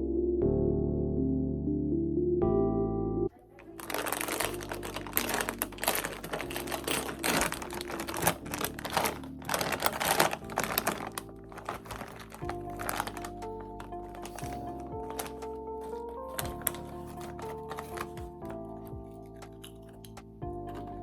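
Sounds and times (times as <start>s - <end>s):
quiet background music: 0.0s - 21.0s.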